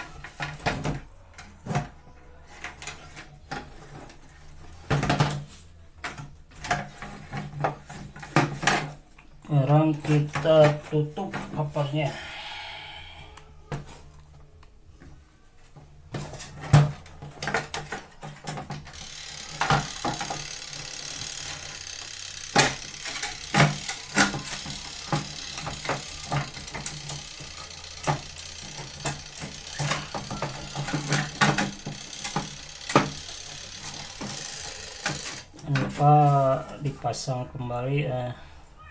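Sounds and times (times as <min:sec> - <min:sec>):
plastic parts clicking and knocking: 0:00.0 - 0:11.8, 0:13.3 - 0:37.0.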